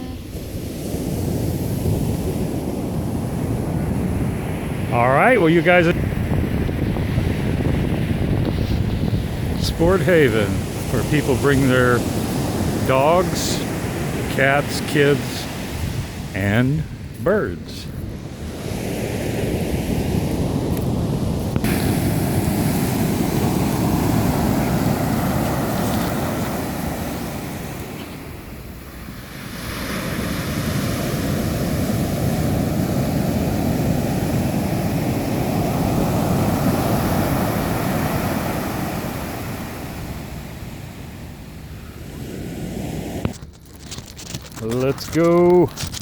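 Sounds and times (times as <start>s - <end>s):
wind on microphone: 0.0s - 5.0s, 5.6s - 14.3s, 15.2s - 40.6s
ocean surf washing ashore: 0.0s - 46.0s.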